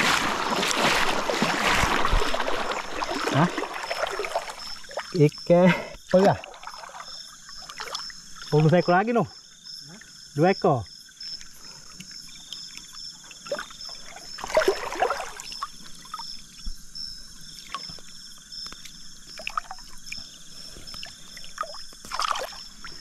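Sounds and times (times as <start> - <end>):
water splashing and trickling: 0.0 - 9.3, 9.9 - 23.0
insects chirping: 0.0 - 23.0.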